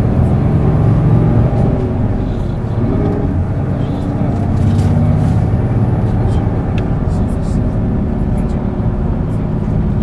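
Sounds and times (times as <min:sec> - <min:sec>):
bus diesel engine under load: 0:00.0 - 0:10.0.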